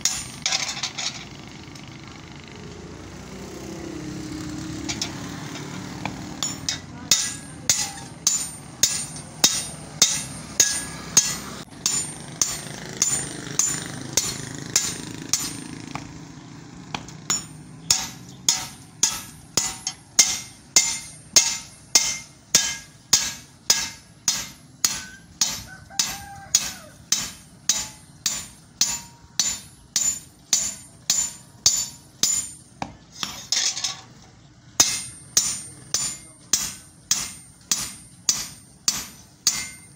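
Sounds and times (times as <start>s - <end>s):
hammer striking metal: 0.0s - 1.3s, 4.8s - 16.2s, 16.9s - 39.9s.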